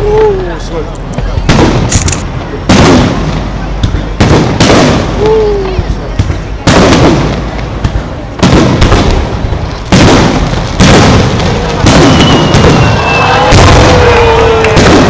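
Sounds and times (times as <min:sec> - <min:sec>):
rumbling echo and crackle: 0:00.0 - 0:15.0
firework booms: 0:01.0 - 0:15.0.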